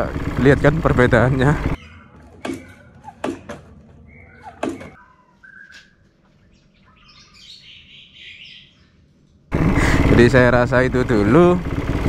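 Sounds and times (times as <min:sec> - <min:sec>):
birds chirping: 0:00.4 - 0:10.5.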